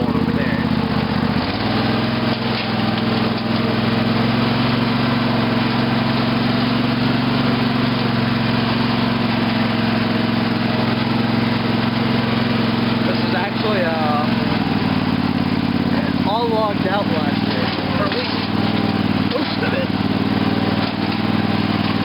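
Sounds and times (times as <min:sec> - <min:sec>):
lawn tractor engine running: 0:00.0 - 0:22.0.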